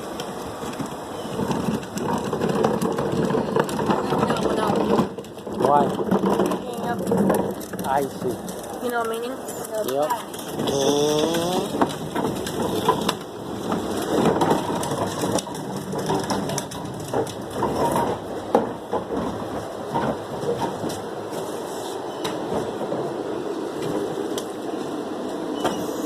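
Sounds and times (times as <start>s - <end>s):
objects clattering and crunching: 0.1s - 23.1s.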